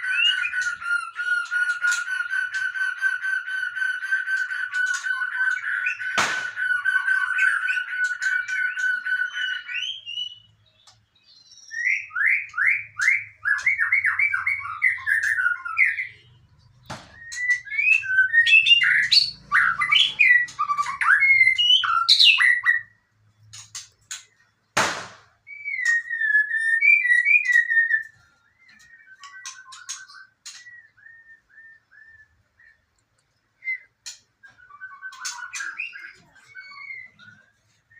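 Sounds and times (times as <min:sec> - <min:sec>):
songbird singing: 0:00.0 - 0:24.8, 0:25.4 - 0:37.9.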